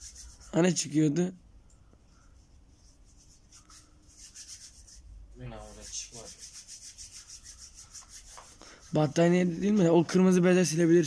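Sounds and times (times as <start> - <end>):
rapid rubbing strokes: 0.0 - 1.0, 2.1 - 10.0.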